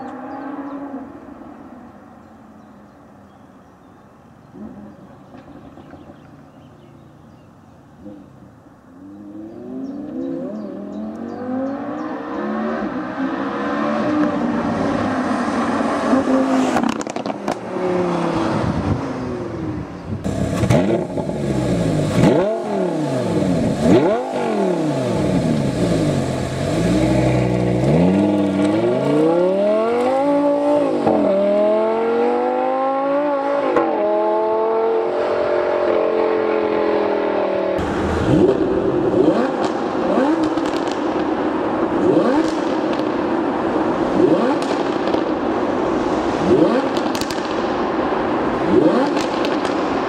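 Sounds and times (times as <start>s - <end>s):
sports car accelerating: 8.9s - 50.0s
sports car engine revving: 9.0s - 47.7s, 48.5s - 50.0s.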